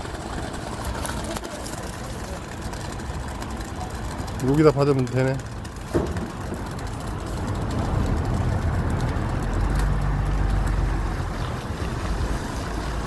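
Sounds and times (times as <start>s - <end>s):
motor running with low rumble: 0.0s - 13.0s.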